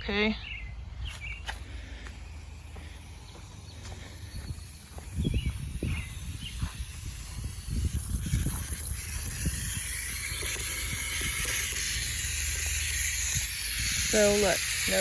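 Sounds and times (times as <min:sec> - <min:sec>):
water hissing through hose: 0:01.7 - 0:15.0.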